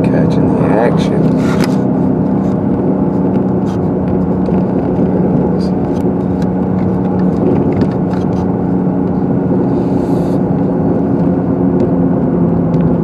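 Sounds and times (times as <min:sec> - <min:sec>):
car engine hum and road rumble: 0:00.0 - 0:13.0.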